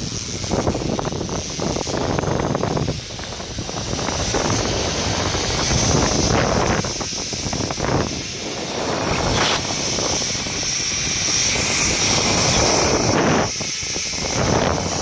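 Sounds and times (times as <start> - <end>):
wind rushing over microphone: 0.0 - 15.0
zip line trolley whirring: 0.0 - 15.0.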